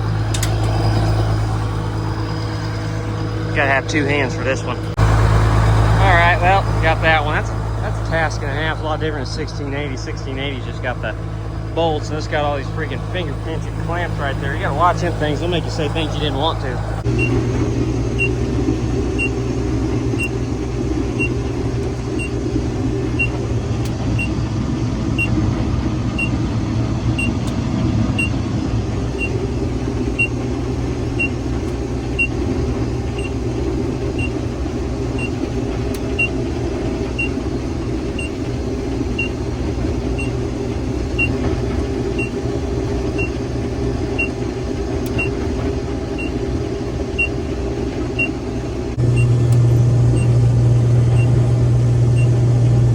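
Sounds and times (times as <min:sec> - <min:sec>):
engine running: 0:00.0 - 0:52.9.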